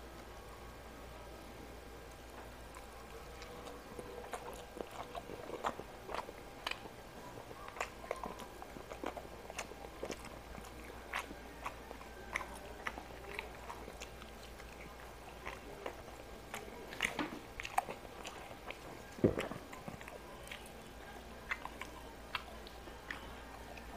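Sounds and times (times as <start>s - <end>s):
person chewing food: 2.1s - 23.9s.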